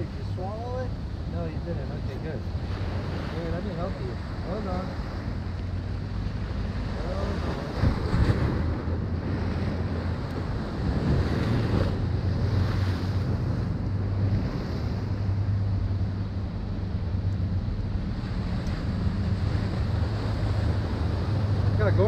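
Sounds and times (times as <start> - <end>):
ocean surf washing in: 0.0 - 22.0
wind buffeting microphone: 0.0 - 22.0.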